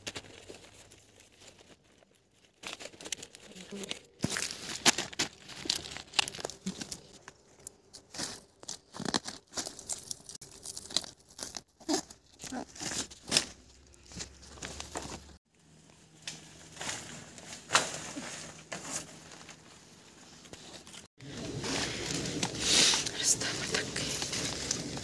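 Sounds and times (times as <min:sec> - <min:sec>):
large leaves rustling and tearing: 0:00.0 - 0:25.0.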